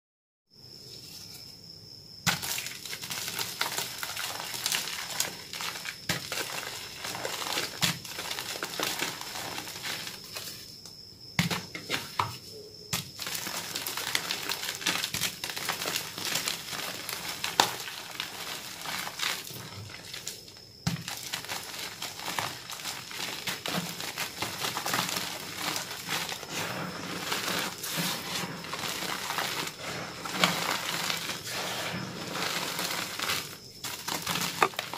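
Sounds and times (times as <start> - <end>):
chalk crunching and crumbling: 2.3 - 10.7, 13.0 - 34.9.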